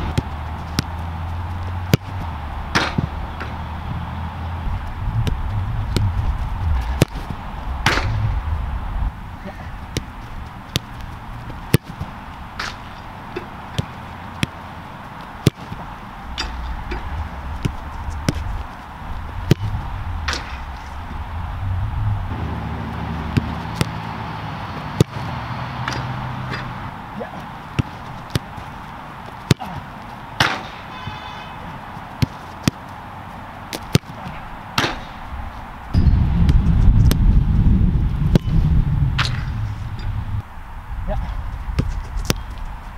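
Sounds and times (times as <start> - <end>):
soccer ball kicks: 0.0 - 8.9, 9.5 - 26.7, 27.4 - 30.8, 31.7 - 32.9, 33.7 - 35.2, 35.9 - 40.4, 41.6 - 42.6.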